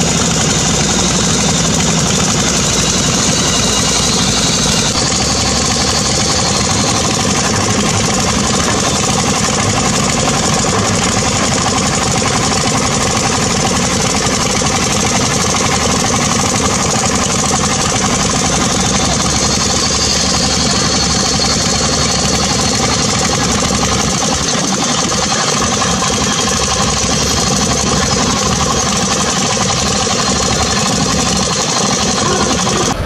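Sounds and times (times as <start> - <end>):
diesel engines idling: 0.0 - 33.0.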